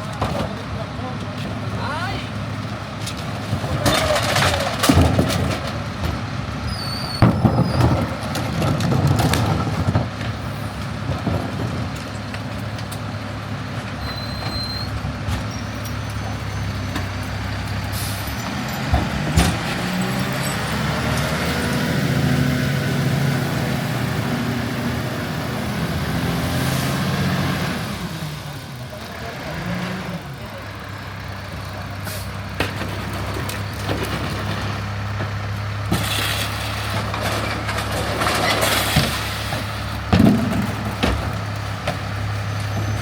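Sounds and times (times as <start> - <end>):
diesel truck engine running: 0.0 - 43.0.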